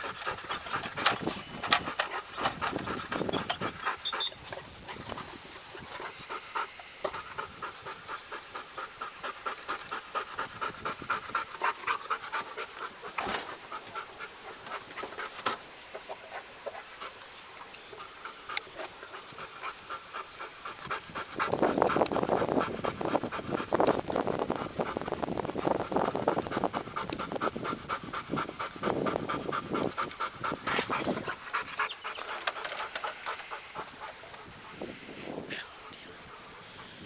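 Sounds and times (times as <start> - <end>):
dog panting: 0.0 - 37.0.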